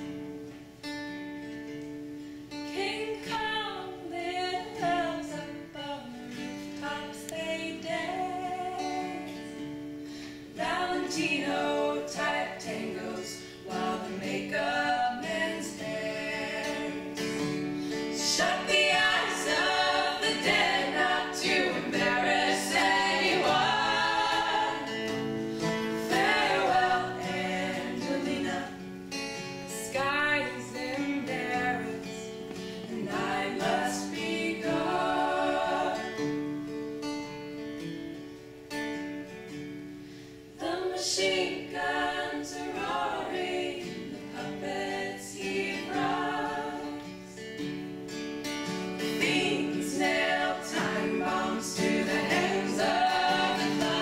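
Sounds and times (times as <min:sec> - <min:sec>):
strummed acoustic guitar: 0:00.0 - 0:54.0
women singing in harmony: 0:02.7 - 0:09.7, 0:10.4 - 0:29.0, 0:29.7 - 0:36.4, 0:40.6 - 0:47.4, 0:49.0 - 0:54.0.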